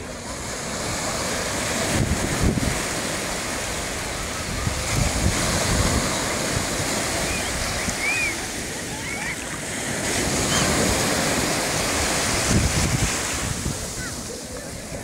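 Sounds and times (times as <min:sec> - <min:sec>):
small waves breaking on shore: 0:00.0 - 0:15.0
wind buffeting microphone: 0:00.7 - 0:15.0.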